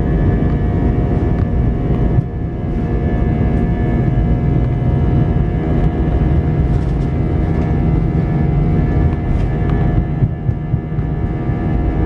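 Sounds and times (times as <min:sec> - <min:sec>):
engine and wheel rumble: 0:00.0 - 0:12.0
jet engine whine: 0:00.0 - 0:12.0.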